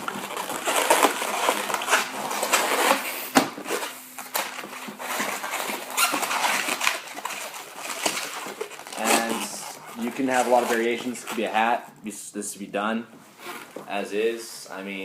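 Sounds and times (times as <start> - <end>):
balloons squeaking and rubbing: 0.0 - 11.9, 13.3 - 14.0.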